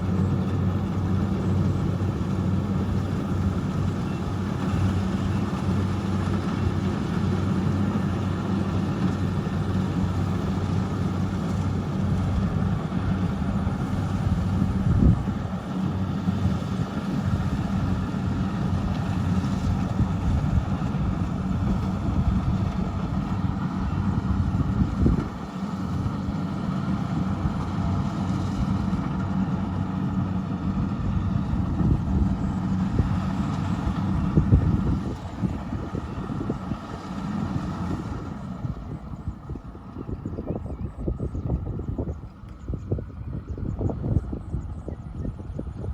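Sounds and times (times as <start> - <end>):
combine harvester engine drone: 0.0 - 45.9.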